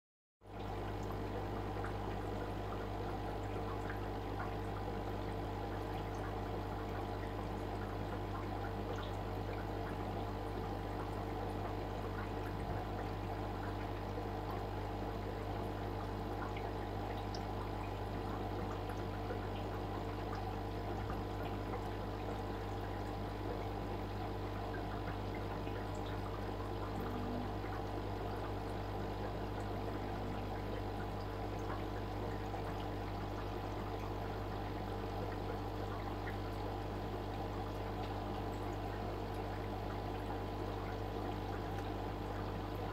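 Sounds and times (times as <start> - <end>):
trickle of aquarium water: 0.4 - 42.9
constant low hum: 0.5 - 42.9.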